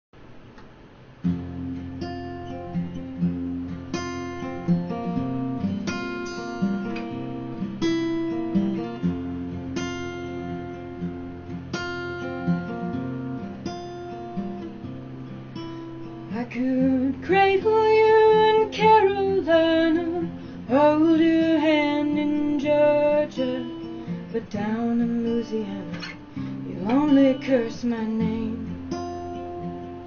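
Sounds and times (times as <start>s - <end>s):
acoustic guitar strumming chords: 1.0s - 30.0s.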